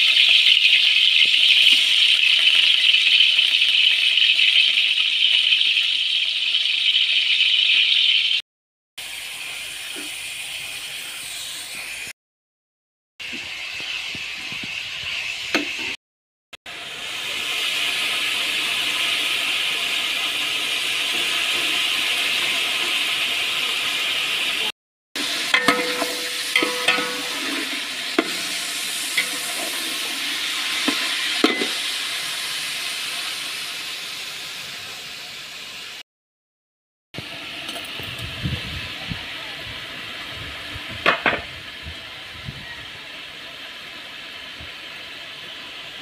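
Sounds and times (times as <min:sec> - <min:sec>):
chicken sizzling in oil: 0:00.0 - 0:08.4, 0:09.0 - 0:12.2, 0:13.2 - 0:16.0, 0:16.7 - 0:36.0, 0:37.2 - 0:46.0.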